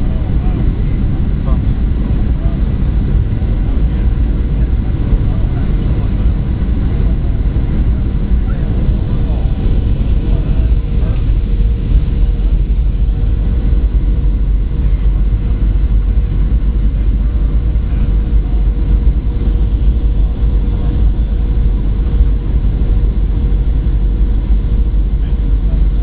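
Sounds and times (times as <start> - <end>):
airliner cabin rumble: 0.0 - 26.0
faint steady hum: 0.0 - 26.0.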